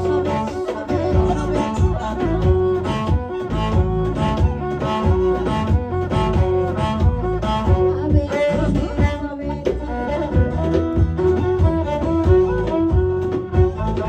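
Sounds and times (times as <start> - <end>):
drums beating steady rhythm: 0.0 - 14.0
held melody line: 0.0 - 14.0
live band music: 0.0 - 14.0.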